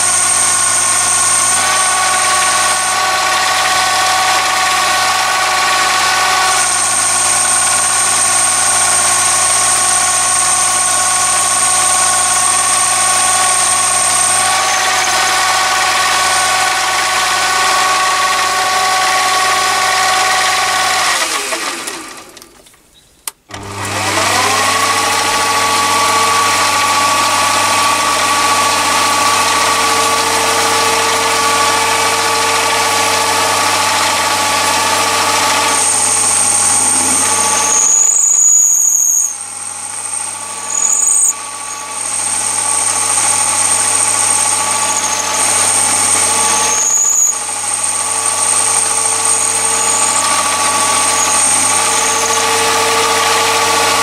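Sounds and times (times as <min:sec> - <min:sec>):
lathe motor whining: 0:00.0 - 0:22.6, 0:23.5 - 0:54.0.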